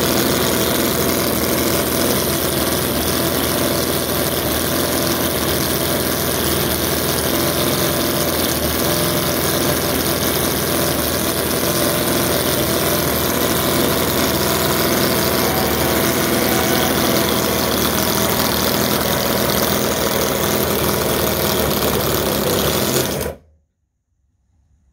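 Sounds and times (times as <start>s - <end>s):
model engine running: 0.0s - 23.4s.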